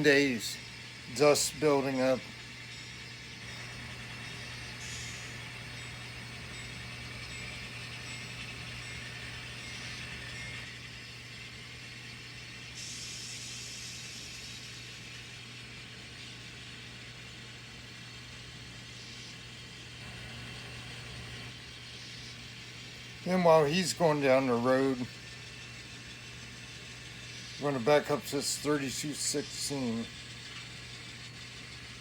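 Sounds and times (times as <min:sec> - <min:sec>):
model train motor humming: 0:00.0 - 0:32.0
wheels hissing on rails: 0:00.0 - 0:32.0.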